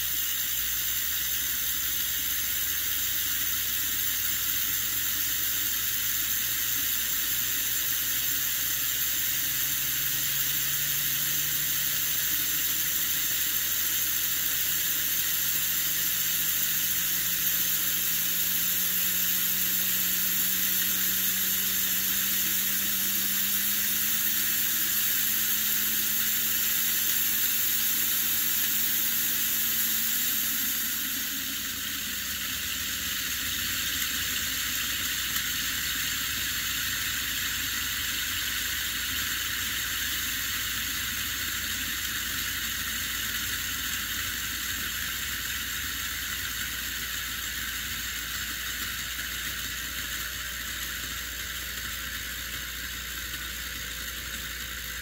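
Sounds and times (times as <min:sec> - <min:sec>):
steam hissing from kettle: 0:00.0 - 0:55.0.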